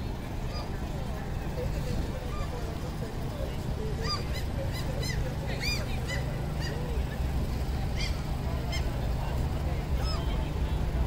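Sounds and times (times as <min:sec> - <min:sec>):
low background rumble: 0:00.0 - 0:11.0
gulls calling: 0:00.4 - 0:10.5.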